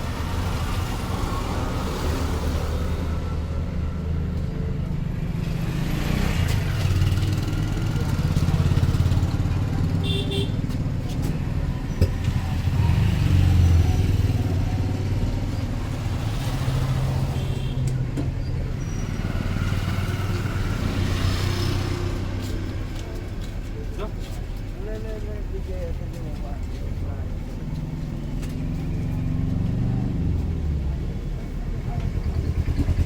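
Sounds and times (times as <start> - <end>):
vehicle engines passing: 0.0 - 33.0.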